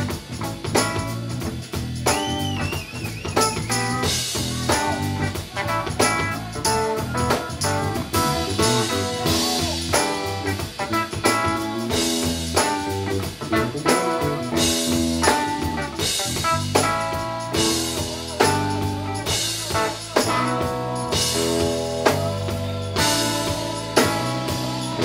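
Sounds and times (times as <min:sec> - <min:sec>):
drum kit beat: 0:00.0 - 0:25.0
electric bass: 0:00.0 - 0:25.0
electric guitar: 0:00.0 - 0:25.0.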